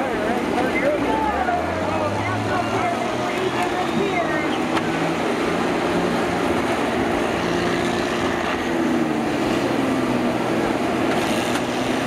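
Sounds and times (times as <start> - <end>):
combine engines droning: 0.0 - 12.0.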